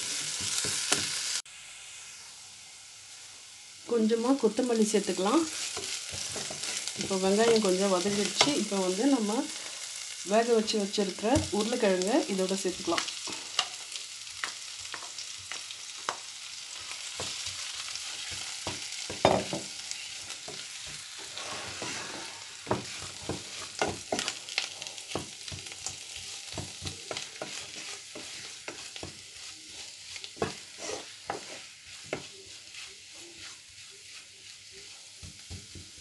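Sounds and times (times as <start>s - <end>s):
food sizzling in a pot: 0.0s - 36.0s.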